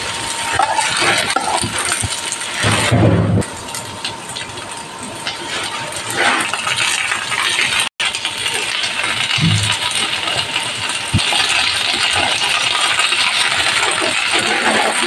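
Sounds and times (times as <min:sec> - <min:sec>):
food sizzling in a hot pan: 0:00.0 - 0:02.9, 0:03.5 - 0:15.0.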